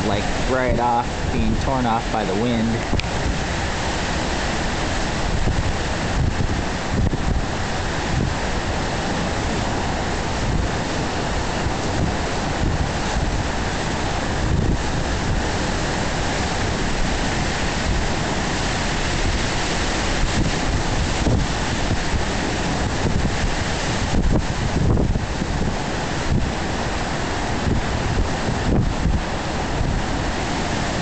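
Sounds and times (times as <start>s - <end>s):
storm wind buffeting microphone: 0.0s - 31.0s
waves breaking: 0.0s - 31.0s.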